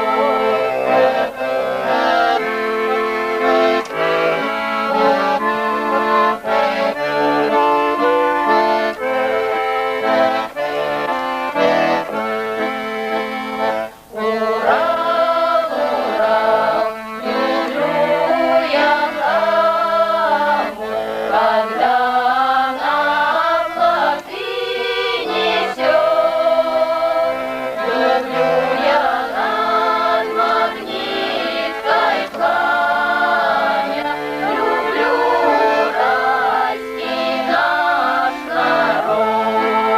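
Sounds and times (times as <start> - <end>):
accordion playing folk tune: 0.0 - 39.9
person singing: 0.0 - 39.9.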